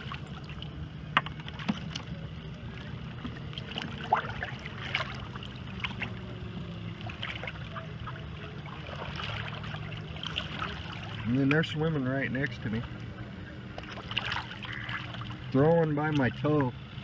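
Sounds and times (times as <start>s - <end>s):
water lapping and splashing: 0.0s - 17.0s.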